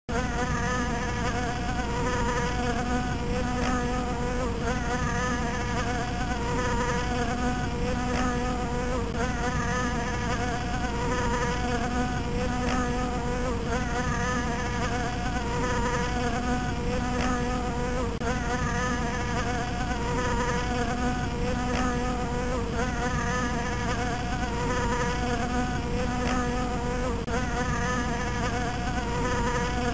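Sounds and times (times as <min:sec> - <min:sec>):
bee buzzing: 0:00.1 - 0:29.9.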